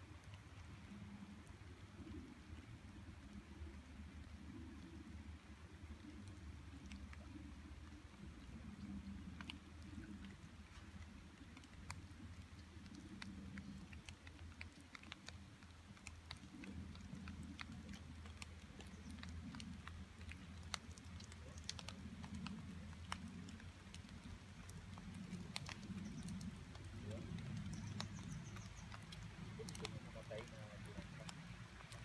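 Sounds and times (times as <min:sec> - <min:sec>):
light clicks and crackles: 0:00.0 - 0:32.0.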